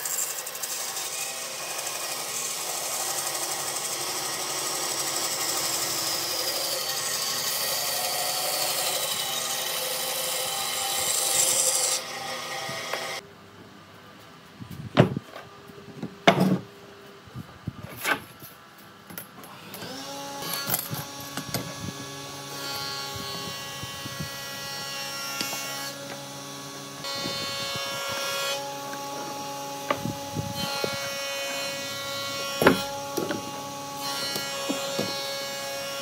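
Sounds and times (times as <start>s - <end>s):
power tool motor working wood: 0.0s - 13.2s, 19.8s - 36.0s.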